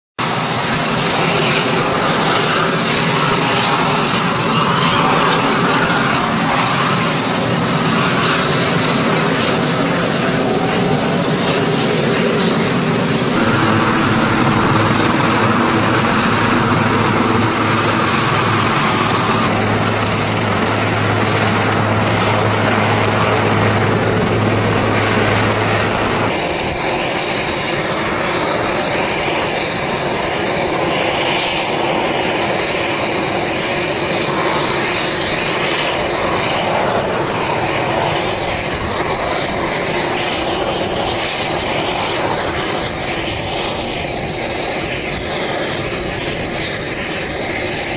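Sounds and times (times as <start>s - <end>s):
helicopter engine hum: 0.2s - 47.9s
helicopter rushing in flight: 0.2s - 47.9s.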